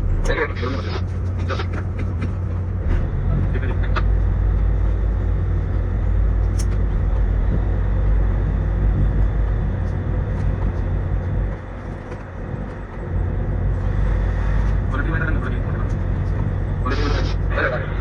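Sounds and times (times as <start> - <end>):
tugboat diesel engines rumbling: 0.0 - 18.0.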